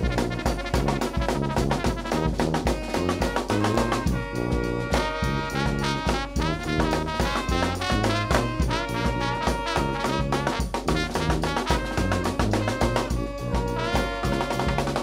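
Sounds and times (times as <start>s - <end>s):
bass drum and snare beat: 0.0s - 15.0s
brass band playing: 0.0s - 15.0s
sousaphone bass line: 0.0s - 15.0s.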